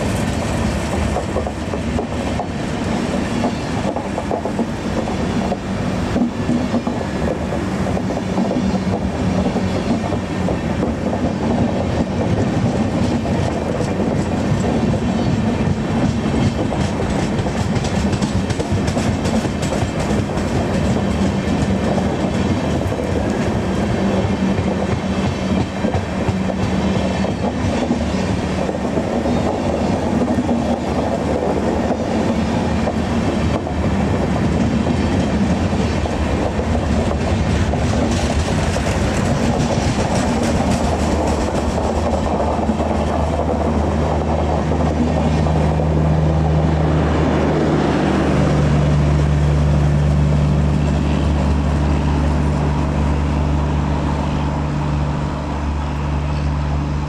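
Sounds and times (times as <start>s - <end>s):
train wheels clattering on rails: 0.0s - 56.6s.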